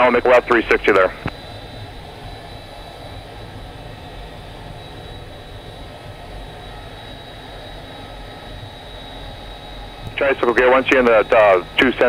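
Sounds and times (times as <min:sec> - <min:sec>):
faint high whine: 0:00.0 - 0:12.0
jet engine rumble and hiss: 0:00.0 - 0:12.0.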